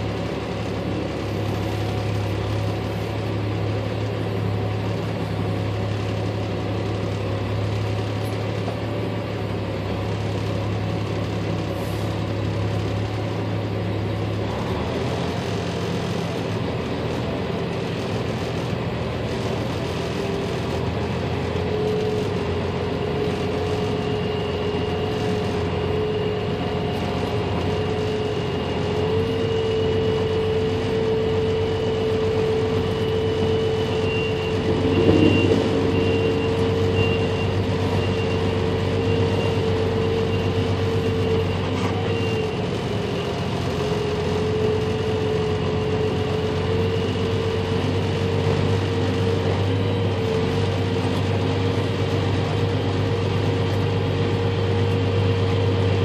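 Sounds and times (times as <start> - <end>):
steady whine: 0.0 - 56.0
truck engine reversing on gravel: 0.0 - 56.0.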